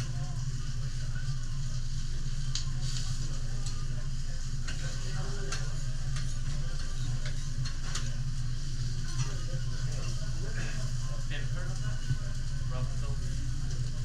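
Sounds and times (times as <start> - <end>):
food sizzling on a griddle: 0.0 - 14.0
steady low hum: 0.0 - 14.0.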